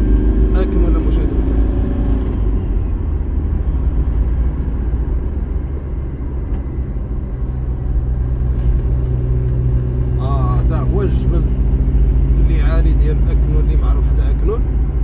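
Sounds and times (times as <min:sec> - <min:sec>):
car engine rumbling: 0:00.0 - 0:15.0
road noise: 0:00.0 - 0:15.0.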